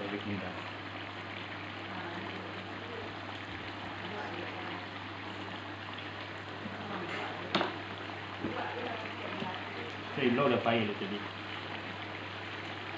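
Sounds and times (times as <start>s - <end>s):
low electrical hum: 0.0s - 12.9s
stove burner hissing: 0.0s - 12.9s.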